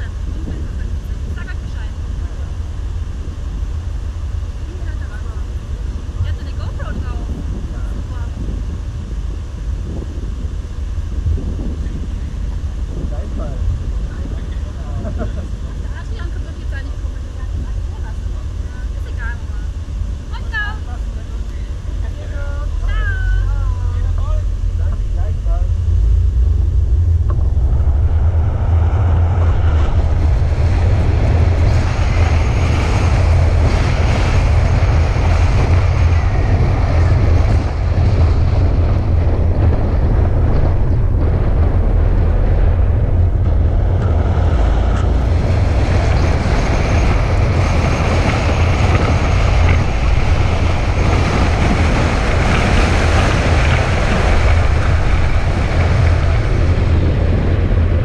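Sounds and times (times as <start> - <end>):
vehicle low rumble: 0.0 - 58.0.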